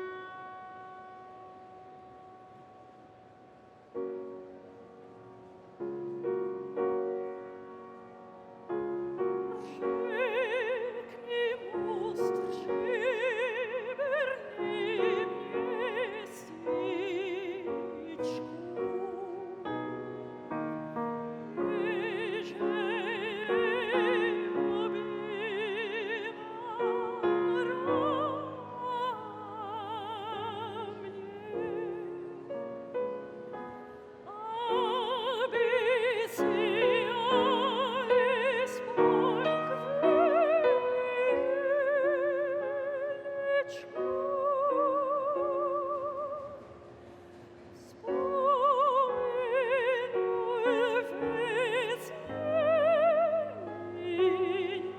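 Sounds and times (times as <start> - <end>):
piano accompaniment: 0.0 - 54.9
operatic singing with vibrato: 8.2 - 32.5, 34.1 - 47.1, 47.8 - 54.9.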